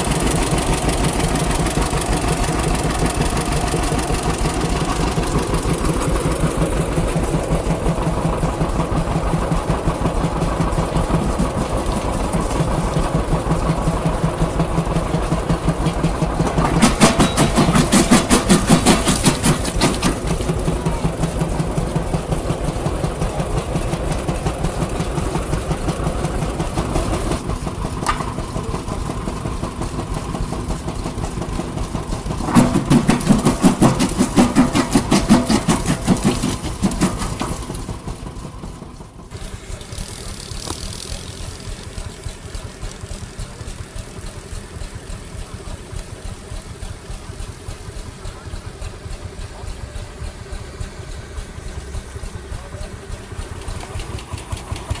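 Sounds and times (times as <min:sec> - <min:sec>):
engines with rhythmic firing beat: 0:00.0 - 0:55.0.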